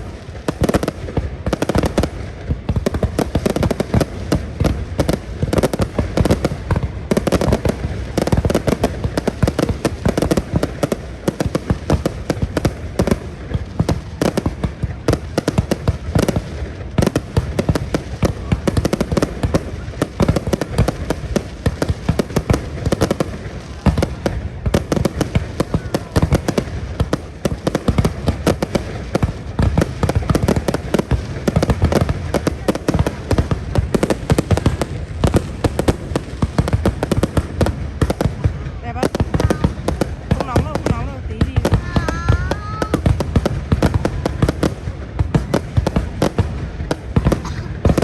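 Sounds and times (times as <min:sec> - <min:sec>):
fireworks bangs and crackles: 0:00.0 - 0:48.0.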